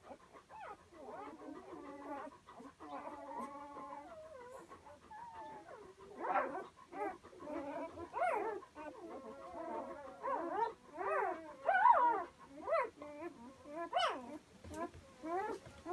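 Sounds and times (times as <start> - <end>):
puppies whimpering and squeaking: 0.0 - 15.9.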